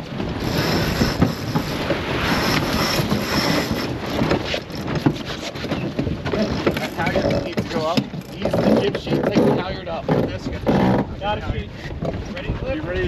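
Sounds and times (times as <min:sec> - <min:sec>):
rushing wind and water: 0:00.0 - 0:13.0
wind buffeting microphone: 0:00.0 - 0:13.0.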